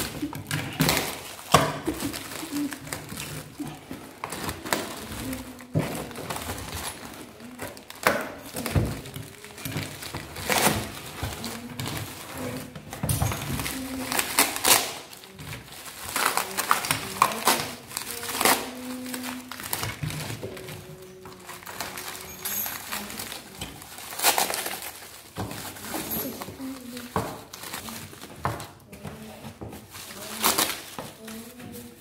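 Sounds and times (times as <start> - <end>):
plastic and bubble wrap crinkling: 0.0 - 32.0.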